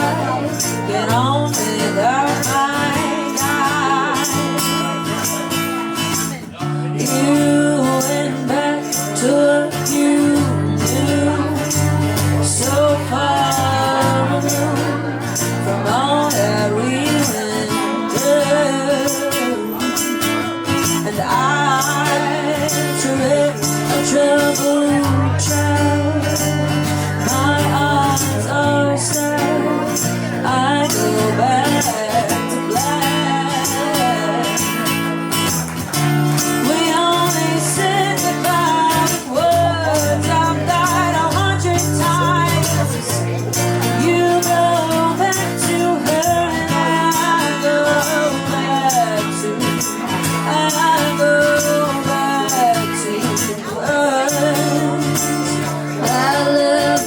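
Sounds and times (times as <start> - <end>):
person singing melody: 0.0 - 57.0
tambourine: 0.0 - 57.0.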